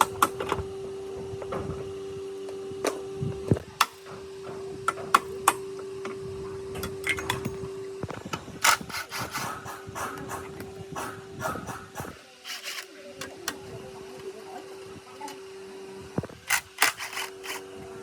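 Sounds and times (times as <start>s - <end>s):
small motor humming: 0.0s - 18.0s.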